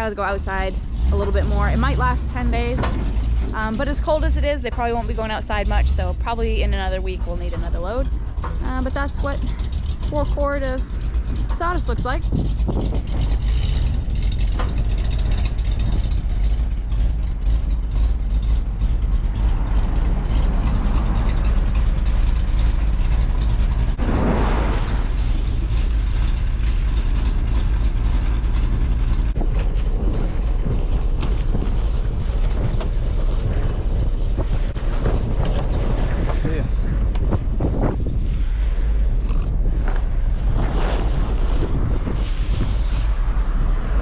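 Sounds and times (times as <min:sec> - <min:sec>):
dump truck engine running: 0:00.0 - 0:44.0.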